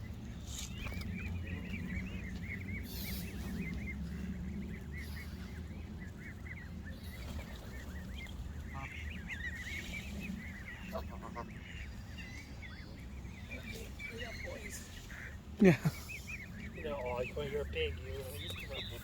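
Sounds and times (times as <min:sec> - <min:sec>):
geese honking: 0:00.0 - 0:19.0
steady low rumble: 0:00.0 - 0:19.0.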